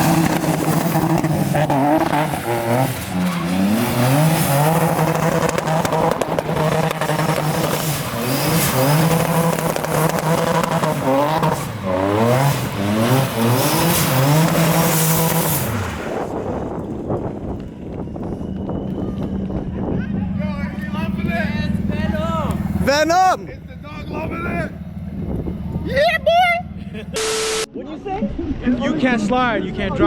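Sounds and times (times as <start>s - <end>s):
car engine revving: 0.0s - 17.4s, 20.2s - 27.7s.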